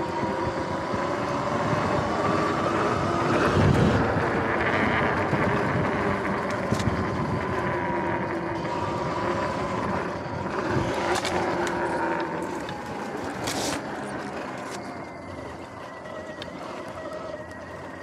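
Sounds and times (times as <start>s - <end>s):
electric motor whine: 0.0s - 18.0s
tyre and wind noise: 0.0s - 18.0s.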